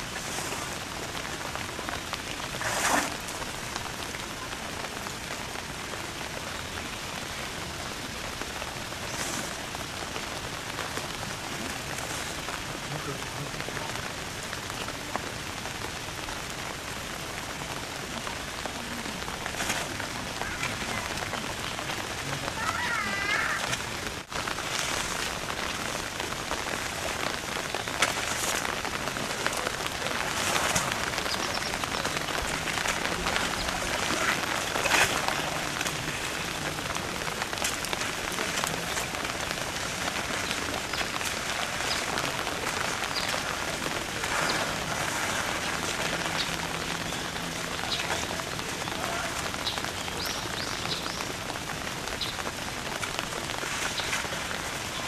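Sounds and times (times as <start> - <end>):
rain-like hiss: 0.0 - 55.0.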